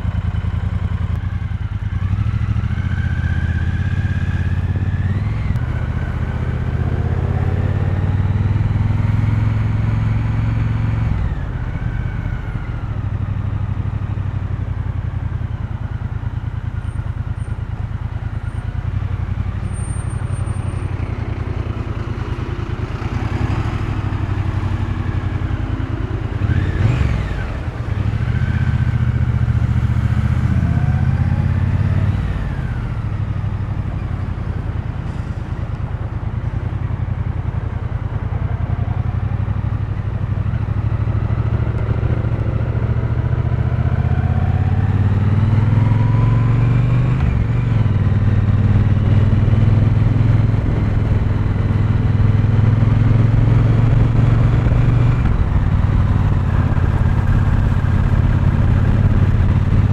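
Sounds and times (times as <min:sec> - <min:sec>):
motorcycle engine and exhaust: 0:00.0 - 0:59.9.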